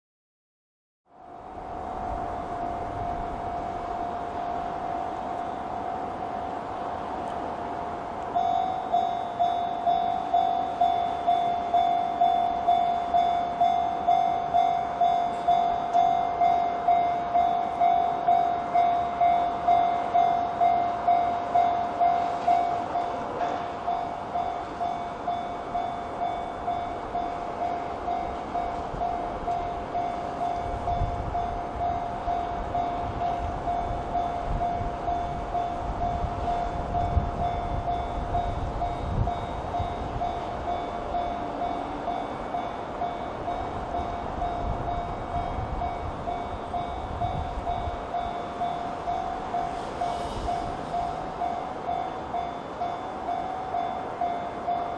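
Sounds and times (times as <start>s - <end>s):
train rumbling over crossing: 1.1s - 54.9s.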